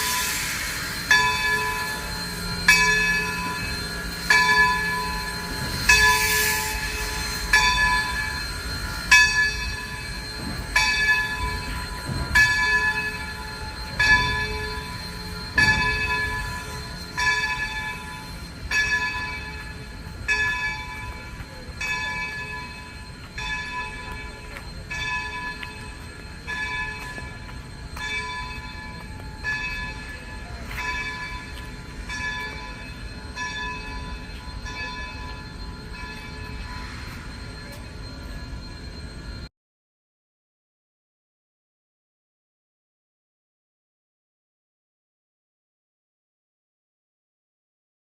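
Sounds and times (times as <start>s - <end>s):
locomotive bell ringing: 0.0s - 39.5s.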